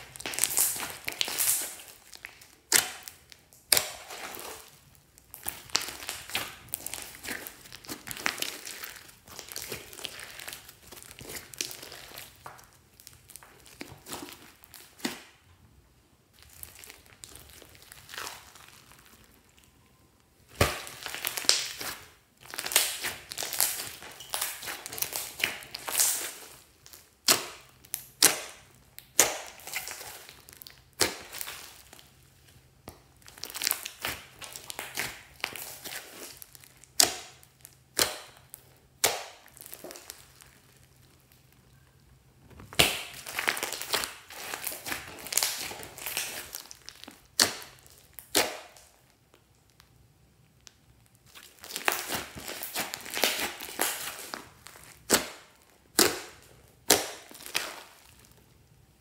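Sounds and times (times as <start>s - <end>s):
slime squelching: 0.0s - 15.5s, 16.3s - 58.8s.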